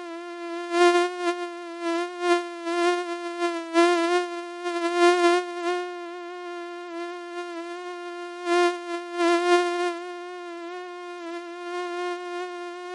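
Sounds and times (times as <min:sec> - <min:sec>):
mosquito wing whine: 0:00.0 - 0:12.9.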